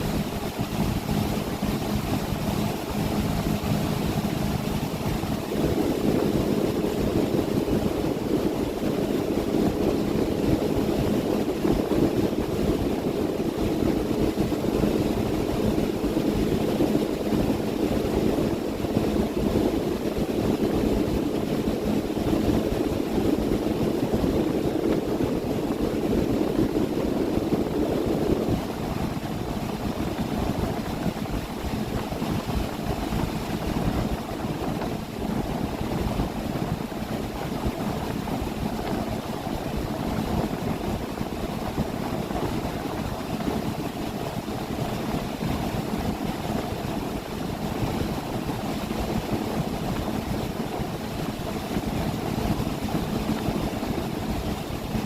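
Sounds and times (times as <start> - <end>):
boat engine droning: 0.0 - 55.0
low steady hum: 0.0 - 55.0
water noise: 0.0 - 55.0
wind: 0.0 - 55.0.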